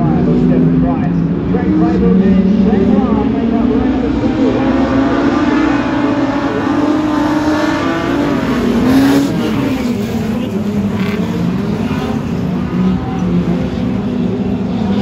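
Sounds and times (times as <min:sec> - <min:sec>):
race car engines running hard: 0:00.0 - 0:15.0
race car passing close: 0:00.0 - 0:15.0.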